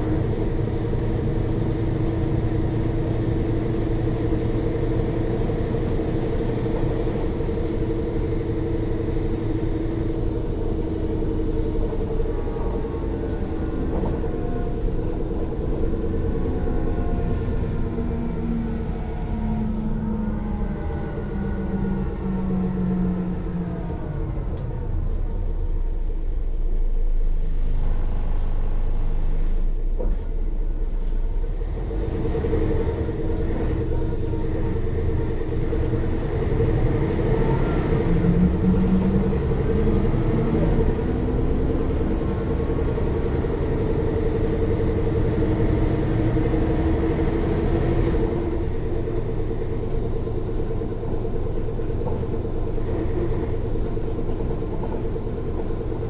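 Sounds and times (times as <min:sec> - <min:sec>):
rear axle whine: 0:00.0 - 0:26.9, 0:31.4 - 0:56.0
bus diesel engine: 0:00.0 - 0:56.0.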